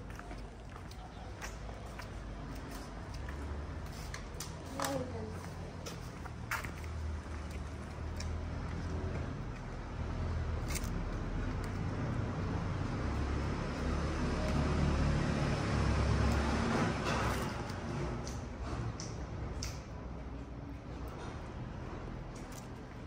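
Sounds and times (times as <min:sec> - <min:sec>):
vehicle engine rumble: 0:00.0 - 0:23.0.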